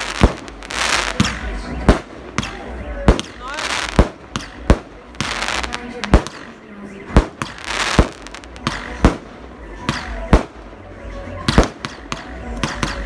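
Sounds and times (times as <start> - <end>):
fireworks bangs: 0.0 - 10.6, 11.4 - 13.0.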